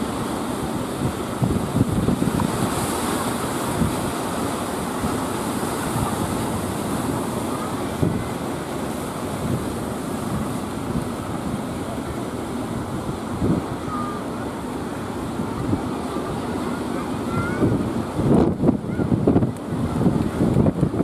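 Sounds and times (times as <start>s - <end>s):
wind buffeting microphone: 0.0s - 14.1s, 15.2s - 21.0s
surf breaking: 0.0s - 21.0s.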